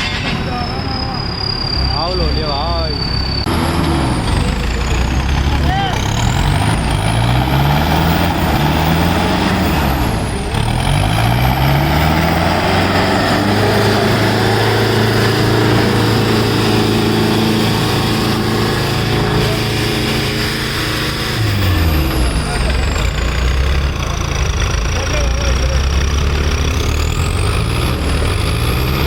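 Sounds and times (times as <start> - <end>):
tractor diesel engines revving: 0.0 - 29.0.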